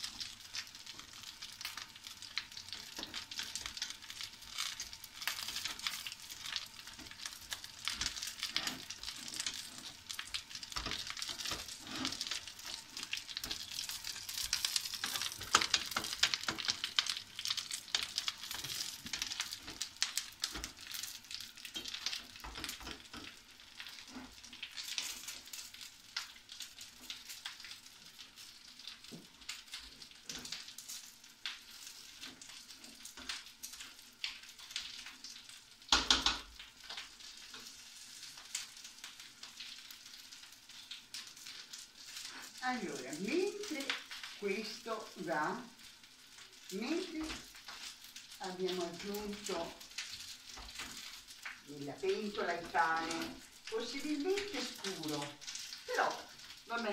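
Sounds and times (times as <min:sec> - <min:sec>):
spatula stirring a pot: 0:00.0 - 0:42.6, 0:45.6 - 0:56.7
kale sizzling in a frying pan: 0:00.0 - 0:56.9.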